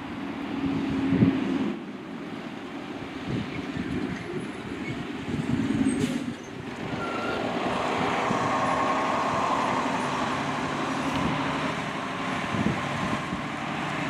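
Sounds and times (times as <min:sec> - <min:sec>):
fire engine rumbling past: 0:00.0 - 0:14.0.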